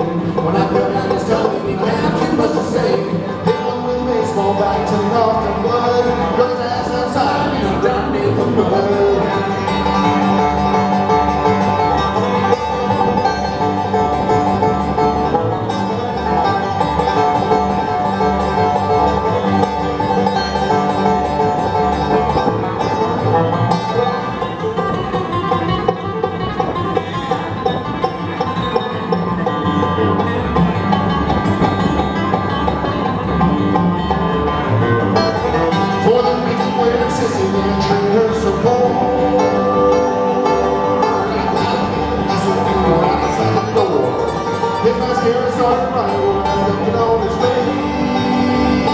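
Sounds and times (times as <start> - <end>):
bluegrass band playing: 0.0 - 48.9.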